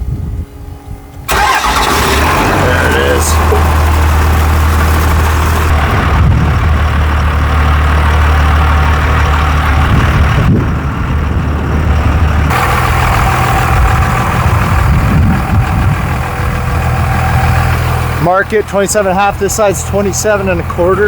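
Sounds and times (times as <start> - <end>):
truck engine idling: 1.1 - 21.0.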